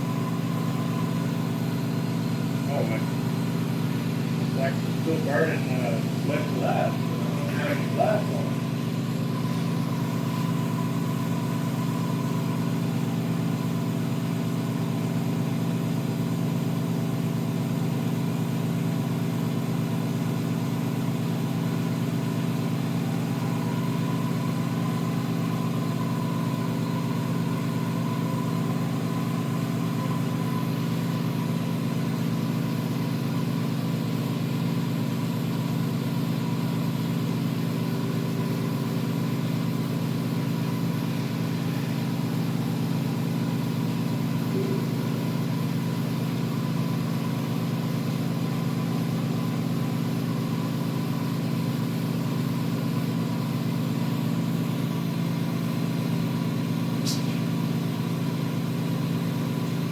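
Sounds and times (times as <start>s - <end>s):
low machine hum: 0.0s - 52.1s.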